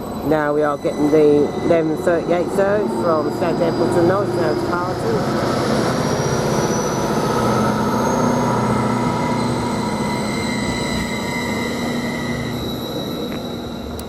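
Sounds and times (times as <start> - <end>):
train drive whining: 0.0 - 14.0
train rumble: 0.0 - 14.0.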